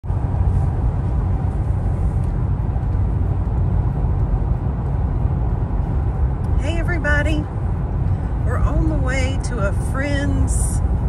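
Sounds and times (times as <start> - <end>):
road and tyre rumble in car: 0.0 - 11.0.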